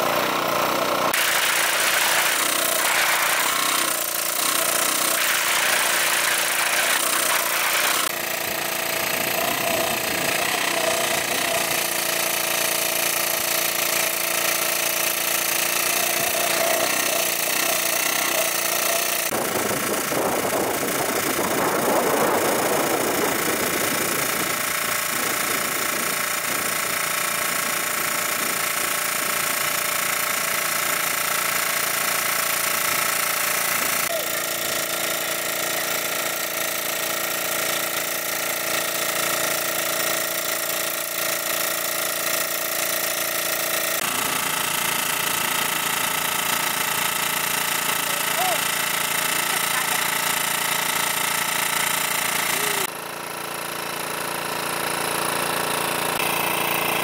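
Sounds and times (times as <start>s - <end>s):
water pump engine running: 0.0s - 57.0s.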